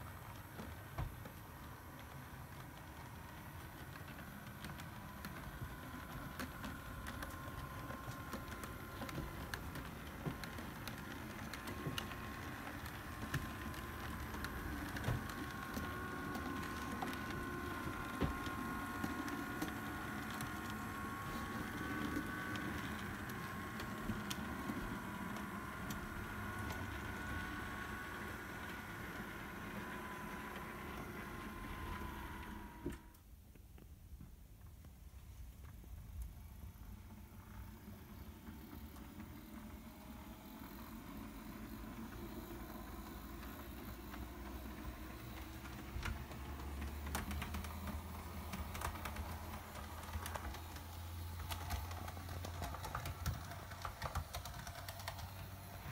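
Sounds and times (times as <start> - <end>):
small irregular clicks: 0.0 - 55.9
electric motor whine: 4.6 - 33.2, 36.4 - 55.9.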